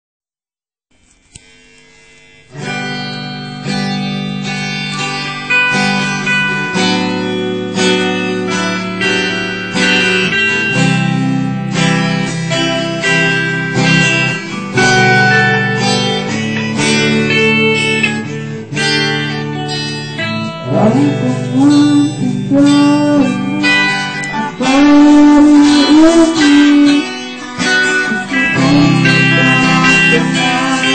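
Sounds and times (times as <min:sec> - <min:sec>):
guitar chords strummed and picked: 0:00.9 - 0:30.9.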